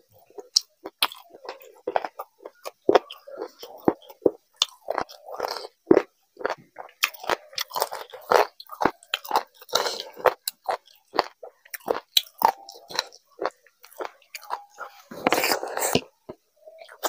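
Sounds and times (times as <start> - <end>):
man chewing with wet mouth smacks: 0.0 - 17.0.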